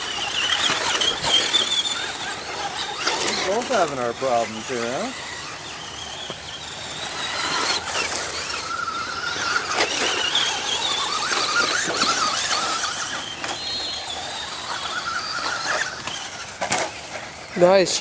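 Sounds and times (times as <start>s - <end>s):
rc truck motor whine: 0.0s - 18.0s
tyre noise: 0.0s - 18.0s.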